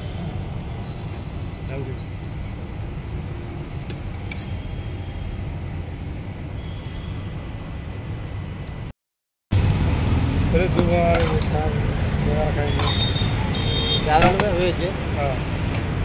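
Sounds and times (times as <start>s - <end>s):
roadside traffic rumble: 0.0s - 8.9s, 9.5s - 16.0s.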